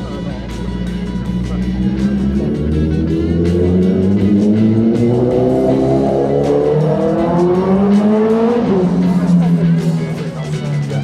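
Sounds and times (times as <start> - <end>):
background music: 0.0 - 11.0
motorcycle engine accelerating: 0.0 - 11.0.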